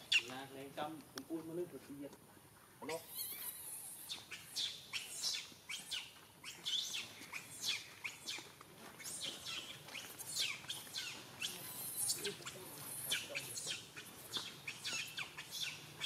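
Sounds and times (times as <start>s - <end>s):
small birds chirping: 0.0s - 0.7s, 2.8s - 16.0s.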